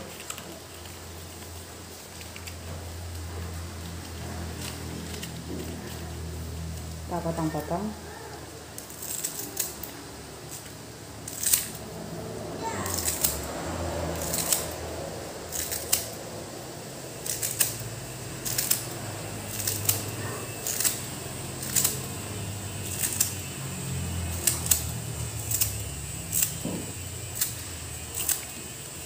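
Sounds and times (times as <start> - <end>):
scissors snipping leaves: 0.0 - 7.7, 8.7 - 12.0, 12.6 - 16.4, 17.0 - 29.0.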